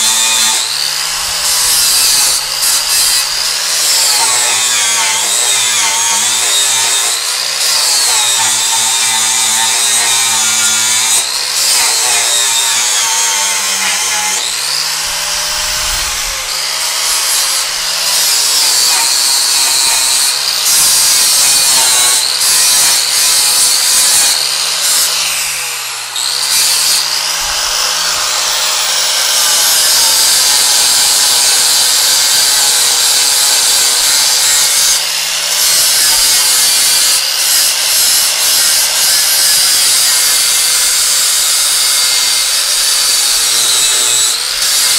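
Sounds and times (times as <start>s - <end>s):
angle grinder grinding metal: 0.0s - 44.9s.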